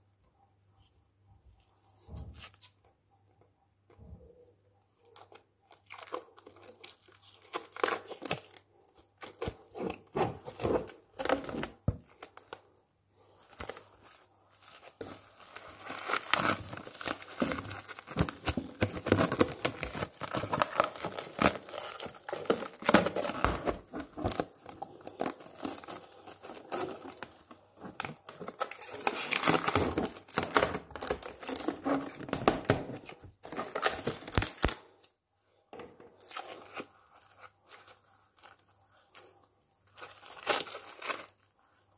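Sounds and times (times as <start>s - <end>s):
plastic wrap crinkling: 4.9s - 35.1s, 36.1s - 41.9s.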